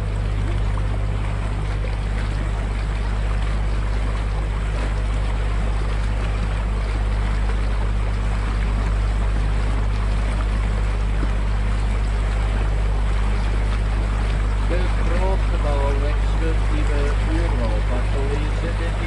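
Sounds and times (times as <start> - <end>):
boat engine humming: 0.0 - 19.0
wake churning and splashing: 0.0 - 19.0.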